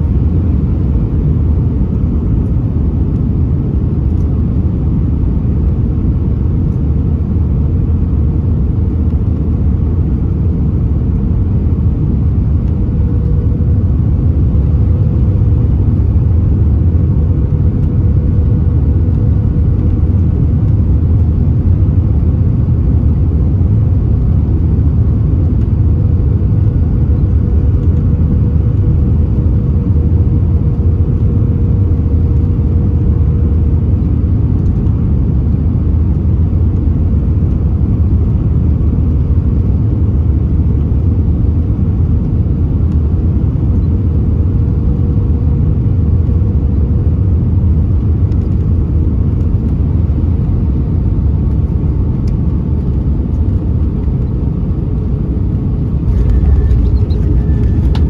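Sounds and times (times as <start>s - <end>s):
airliner cabin engine rumble: 0.0s - 58.0s
faint steady hum: 0.0s - 58.0s.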